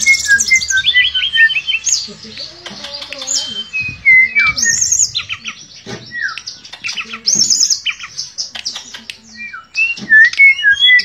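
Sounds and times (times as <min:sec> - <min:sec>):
bird singing whistled phrases: 0:00.0 - 0:08.2, 0:09.2 - 0:11.0.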